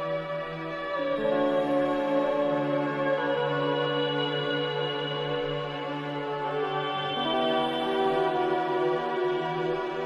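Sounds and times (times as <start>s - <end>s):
slow held chords music: 0.0s - 10.0s.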